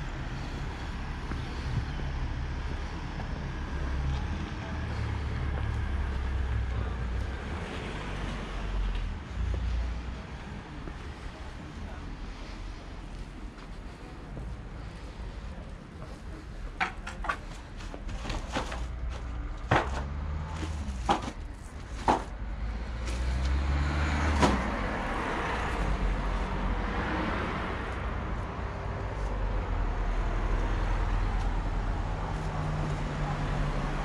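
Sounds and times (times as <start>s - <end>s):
vehicle engine and tyre noise: 0.0s - 34.0s.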